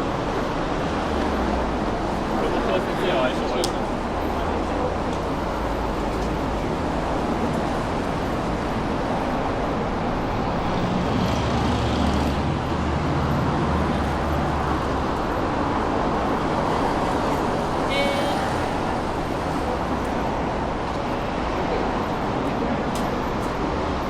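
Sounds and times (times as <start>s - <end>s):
road noise hum: 0.0s - 24.0s.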